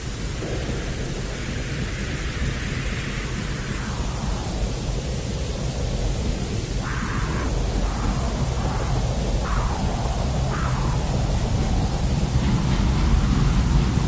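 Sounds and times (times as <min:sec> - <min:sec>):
white noise hiss: 0:00.0 - 0:14.0.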